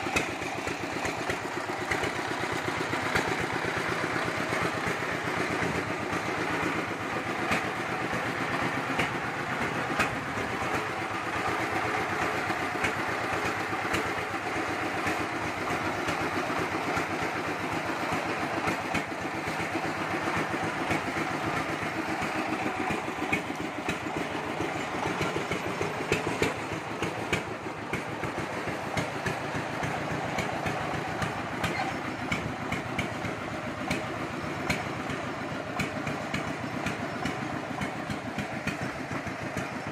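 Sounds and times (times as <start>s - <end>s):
diesel engine running: 0.0s - 39.9s
sharp knocks and rattles: 0.0s - 39.9s.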